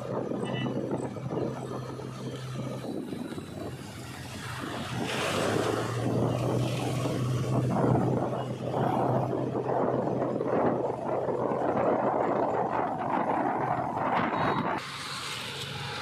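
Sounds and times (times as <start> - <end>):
bus passing close: 0.0 - 12.0, 13.2 - 16.0
traffic engine hum: 0.0 - 16.0
tyre and road noise: 0.0 - 16.0.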